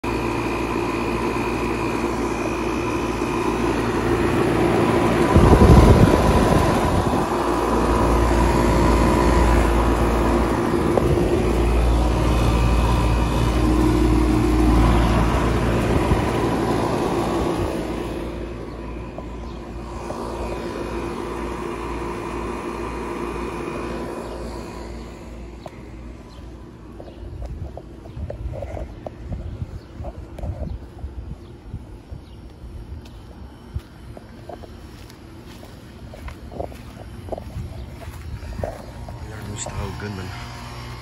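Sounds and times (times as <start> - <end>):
air conditioner unit humming: 0.0 - 41.0
low rumble: 0.9 - 41.0.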